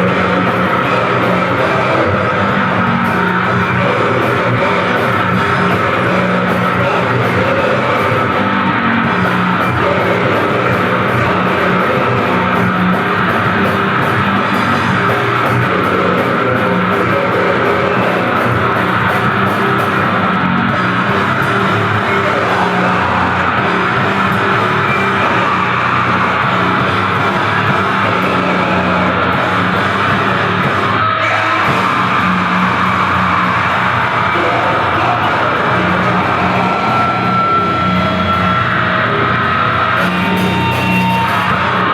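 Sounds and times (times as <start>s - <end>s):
blast-beat drums: 0.0s - 41.9s
distorted guitar and bass: 0.0s - 41.9s
shrieked vocals: 0.0s - 41.9s.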